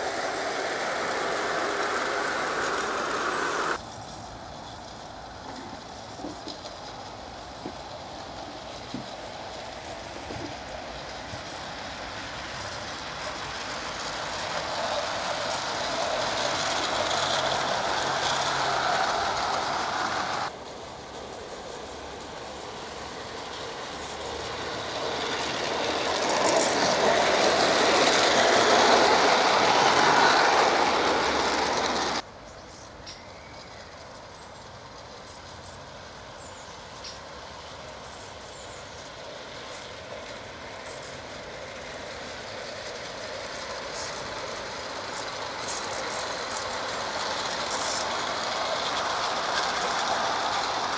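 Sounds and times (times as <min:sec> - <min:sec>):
model train wheels clattering: 0:00.0 - 0:50.9
steady background noise: 0:00.0 - 0:50.9.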